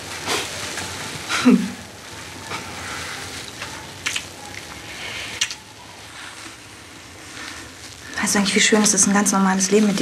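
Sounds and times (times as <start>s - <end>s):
bubble bath foam crackling: 0.0s - 10.0s.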